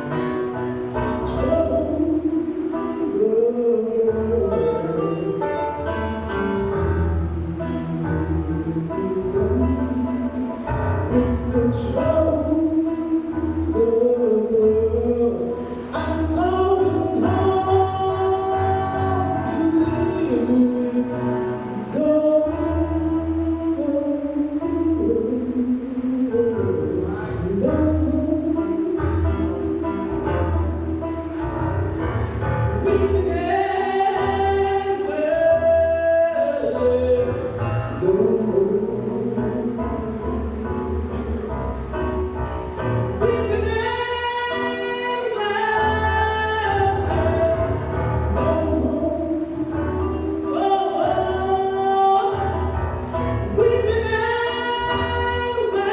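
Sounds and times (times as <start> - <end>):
instrumental accompaniment: 0.0 - 55.9.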